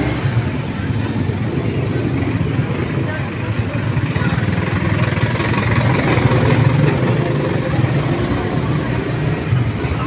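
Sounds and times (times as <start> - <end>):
truck engine passing: 0.0 - 10.0.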